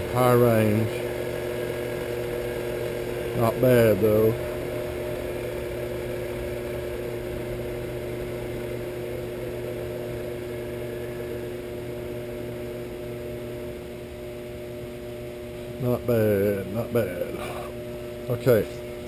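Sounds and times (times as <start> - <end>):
machine motor humming: 0.0 - 19.0.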